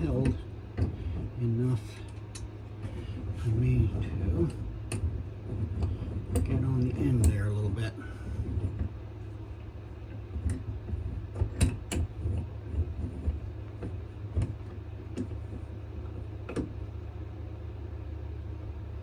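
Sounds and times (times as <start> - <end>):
vise clicks and knocks: 0.0 - 1.4, 2.0 - 16.9
steady low hum: 0.0 - 19.0.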